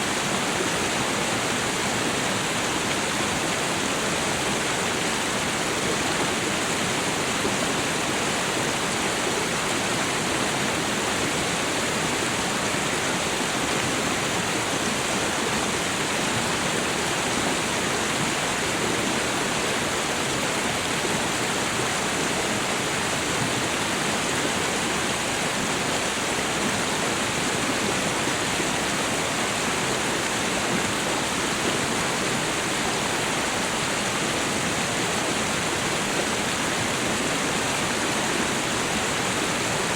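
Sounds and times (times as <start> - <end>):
stream pouring over waterfall: 0.0 - 39.9.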